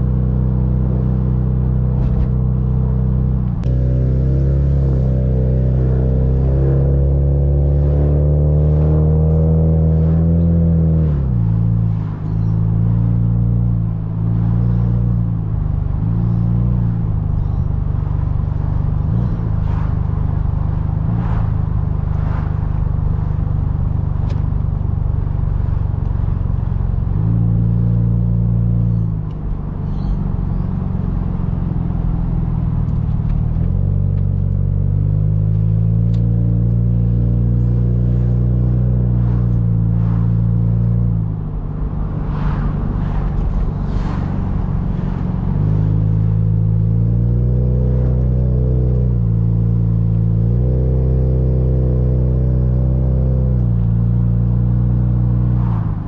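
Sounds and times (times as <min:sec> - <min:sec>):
car engine while driving: 0:00.0 - 0:56.0
road noise: 0:00.0 - 0:56.0.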